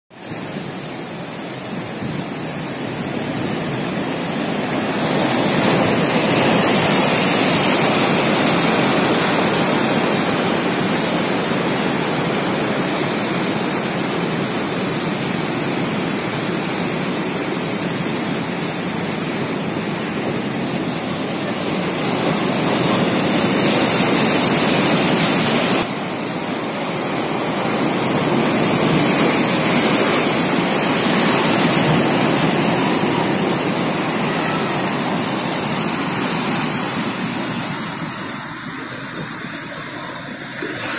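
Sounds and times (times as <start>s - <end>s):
surf breaking over rocks: 0.2s - 40.9s.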